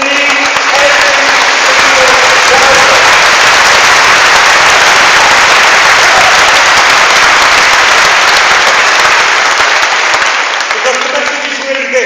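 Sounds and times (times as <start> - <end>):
cheers: 0.0 - 12.0
crowd applauding: 0.0 - 12.0.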